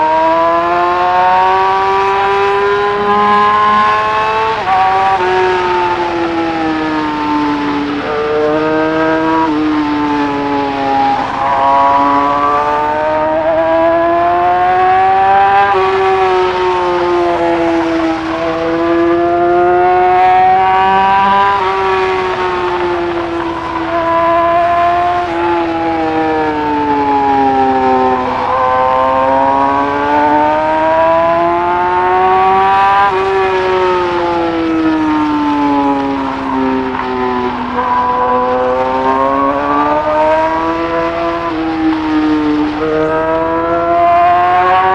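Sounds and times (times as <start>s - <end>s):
motorcycle engine revving: 0.0s - 44.9s
wind and road noise: 0.0s - 44.9s.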